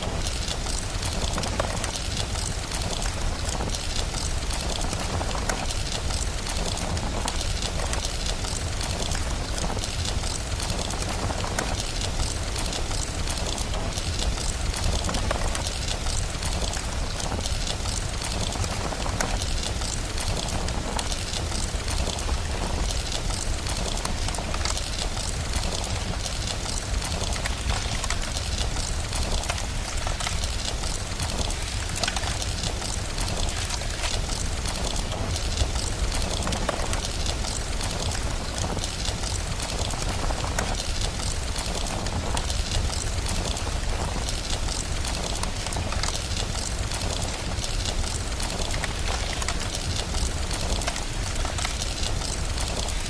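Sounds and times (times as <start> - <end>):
fire crackling: 0.0 - 53.0
steady rain: 0.0 - 53.0.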